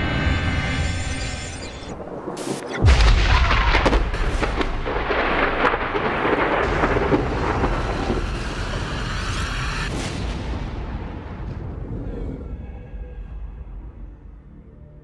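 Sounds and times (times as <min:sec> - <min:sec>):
thunder rumbling: 0:02.0 - 0:14.6
thunderclap: 0:02.1 - 0:14.4.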